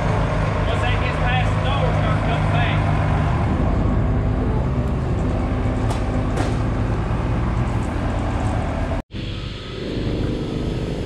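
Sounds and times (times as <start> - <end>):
forklift engine droning: 0.0 - 11.0.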